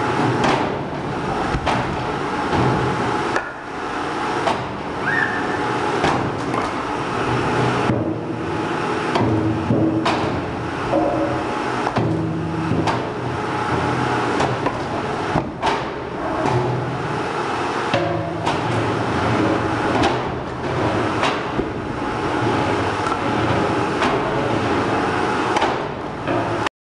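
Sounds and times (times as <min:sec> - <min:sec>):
log splitter motor hum: 0:00.0 - 0:26.7.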